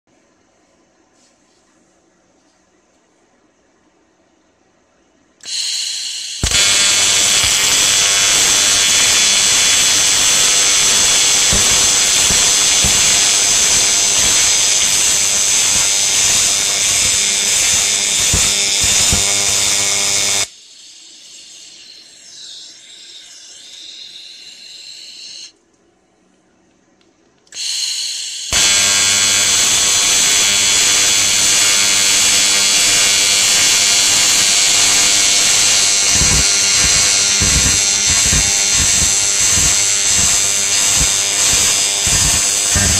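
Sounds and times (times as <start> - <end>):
high hiss: 5.4 - 25.5, 27.5 - 42.9
welding arc buzzing: 5.4 - 25.5, 27.6 - 42.9.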